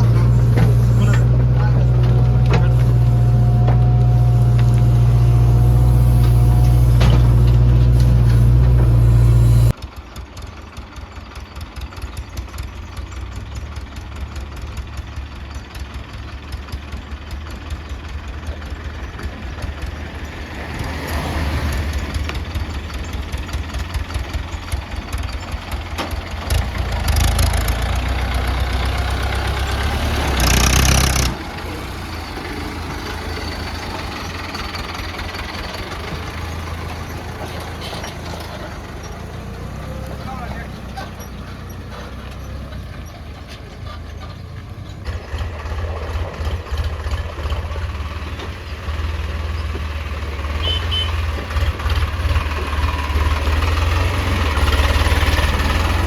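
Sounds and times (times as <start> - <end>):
knocking diesel engine revving: 0.0 - 9.8, 12.2 - 56.0
diesel engine of backhoe loader: 0.0 - 56.0.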